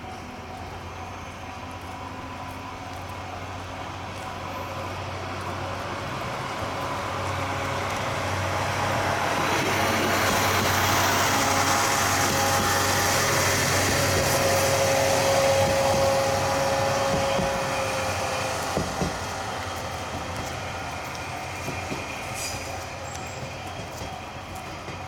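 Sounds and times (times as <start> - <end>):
diesel railcar engine: 0.0 - 25.0
train wheels on track: 0.0 - 25.0.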